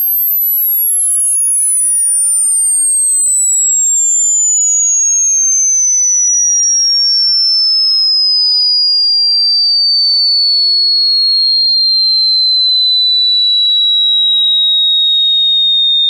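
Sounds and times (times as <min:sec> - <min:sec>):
high-pitched falling sine tone: 0:00.0 - 0:16.0.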